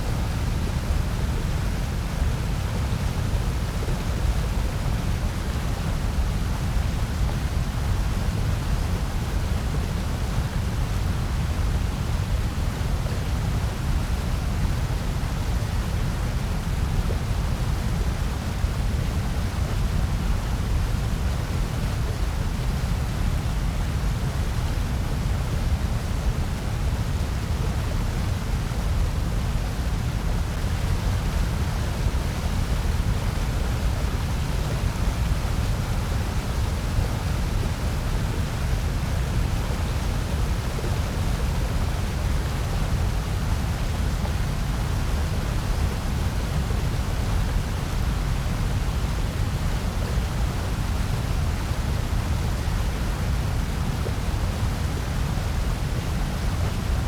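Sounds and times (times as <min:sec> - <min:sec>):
white noise with low rumble: 0:00.0 - 0:57.0.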